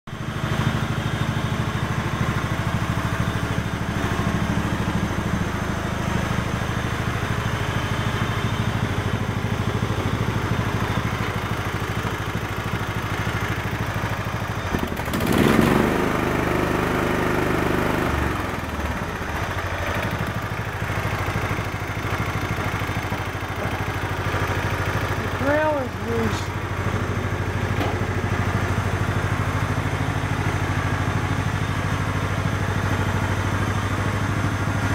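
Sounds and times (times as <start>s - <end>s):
lawn tractor engine idling: 0.1s - 34.9s.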